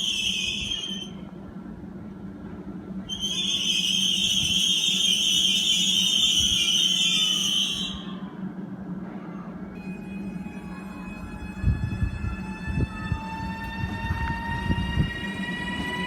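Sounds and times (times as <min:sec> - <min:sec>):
train brakes squealing: 0:00.0 - 0:01.3, 0:03.1 - 0:08.5, 0:09.2 - 0:16.0.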